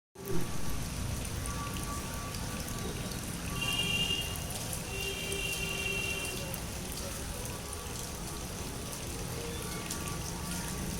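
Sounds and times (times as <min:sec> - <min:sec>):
steady rain falling: 0:00.2 - 0:10.9.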